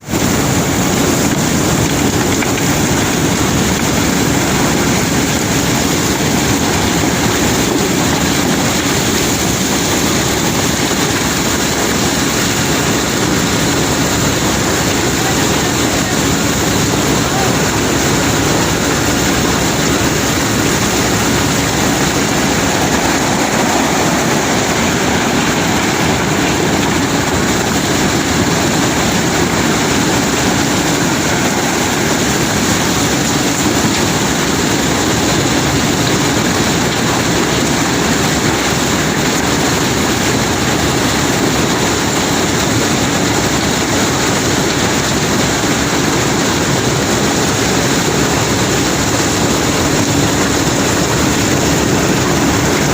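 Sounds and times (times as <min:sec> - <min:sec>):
heavy unloading machinery running: 0:00.0 - 0:52.9.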